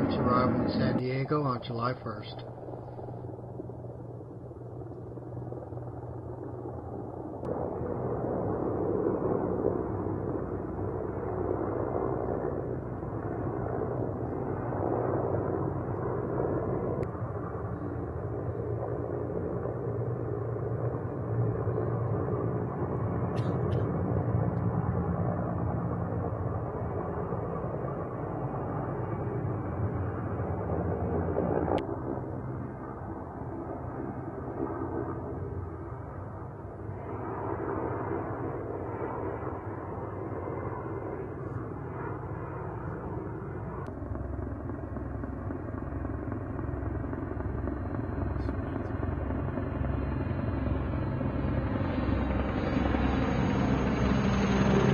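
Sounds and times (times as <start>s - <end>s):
helicopter rotor and turbine rumble: 0.0s - 54.9s.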